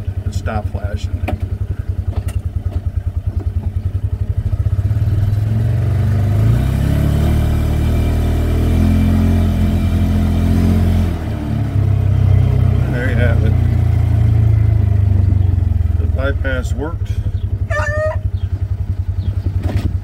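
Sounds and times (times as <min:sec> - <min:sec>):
engine idling and revving: 0:00.0 - 0:20.0.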